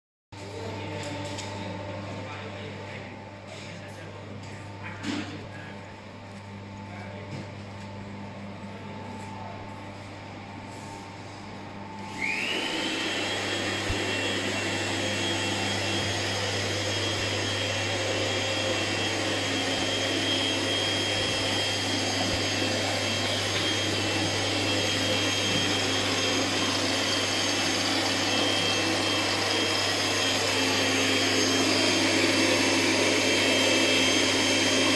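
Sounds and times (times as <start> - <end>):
electric fan motor whine: 6.5 - 34.9.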